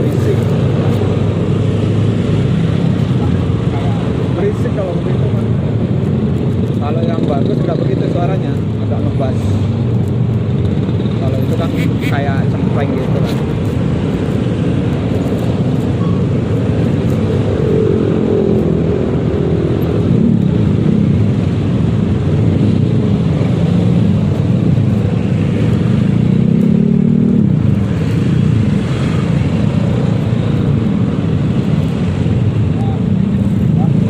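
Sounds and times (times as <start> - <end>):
road noise: 0.0 - 34.0
surrounding traffic: 0.0 - 34.0.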